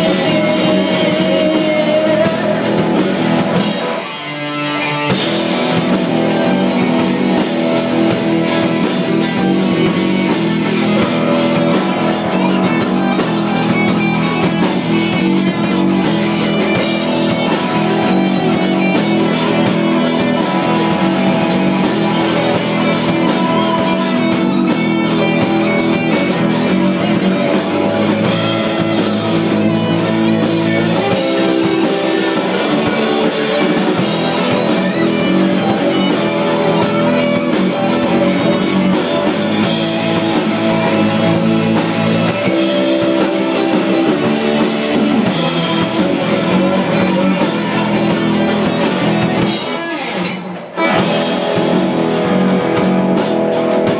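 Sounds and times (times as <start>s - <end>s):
steady drum beat: 0.0s - 4.1s, 5.1s - 49.9s, 50.7s - 53.9s
live rock band playing: 0.0s - 53.9s.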